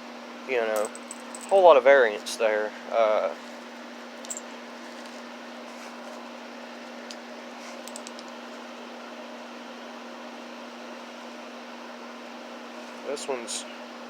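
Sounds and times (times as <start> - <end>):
steady constant-tone hum: 0.0 - 14.0.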